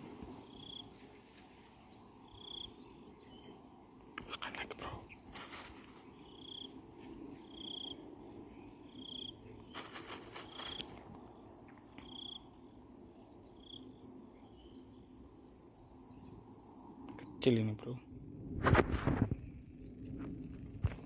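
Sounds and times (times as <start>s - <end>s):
high-pitched insect trill: 0.0s - 18.6s.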